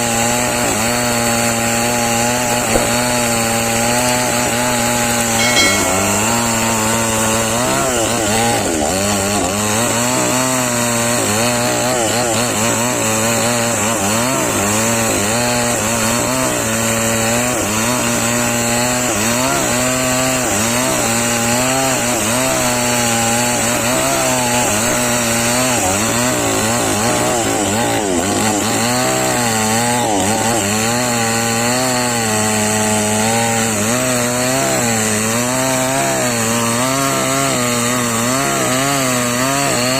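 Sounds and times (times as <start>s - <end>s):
chainsaw engine at high revs: 0.0s - 39.9s.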